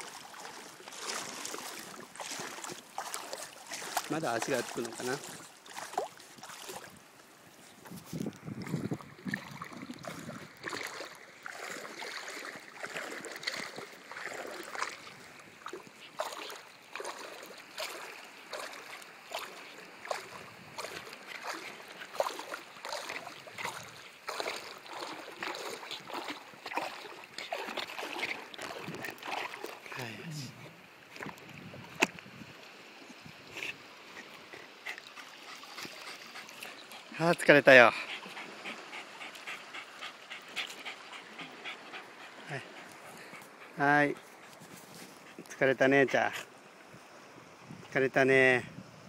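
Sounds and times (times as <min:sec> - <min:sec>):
dog paddling splashing water: 0:00.0 - 0:32.2, 0:33.5 - 0:46.4.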